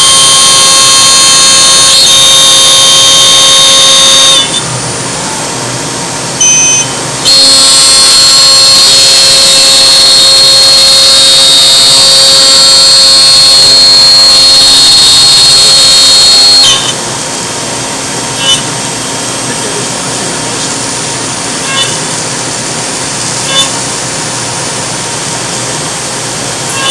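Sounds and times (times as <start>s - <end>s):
cnc router high-pitched whine: 0.0s - 26.9s.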